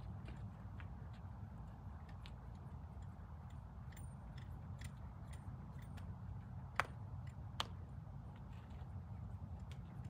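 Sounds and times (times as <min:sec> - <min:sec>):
horse walking in soft sand: 0:00.0 - 0:07.4, 0:08.1 - 0:10.0.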